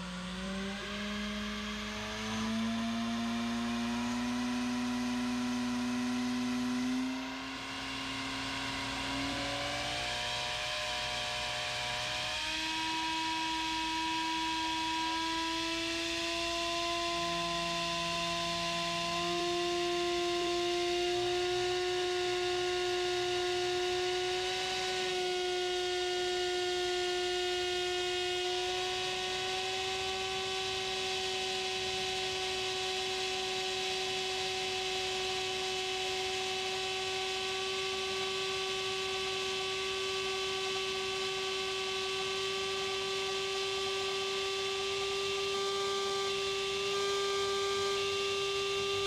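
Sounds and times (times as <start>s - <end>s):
drone motor humming: 0.0s - 49.0s.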